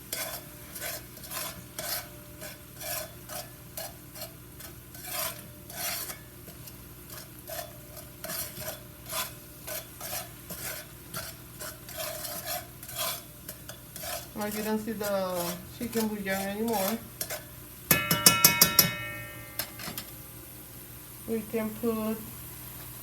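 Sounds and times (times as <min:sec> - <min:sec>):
spoon scraping a cooking pot: 0:00.0 - 0:20.2
faint sizzle of oil: 0:00.0 - 0:23.0.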